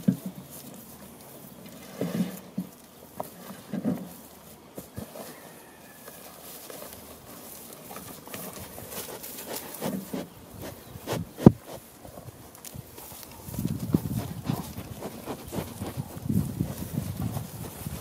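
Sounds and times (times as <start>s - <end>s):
hooves crunching on straw: 0.0s - 18.0s
rustling: 0.0s - 18.0s.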